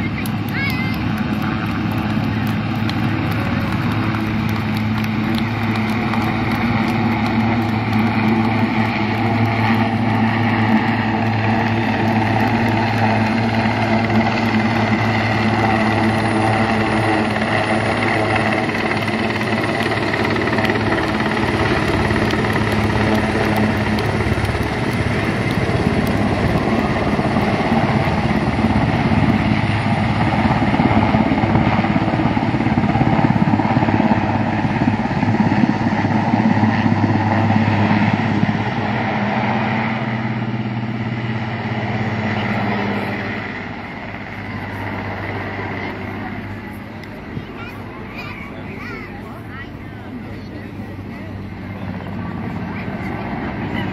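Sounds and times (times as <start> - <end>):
helicopter rotor beat: 0.0 - 53.9
helicopter turbine whine: 0.0 - 53.9.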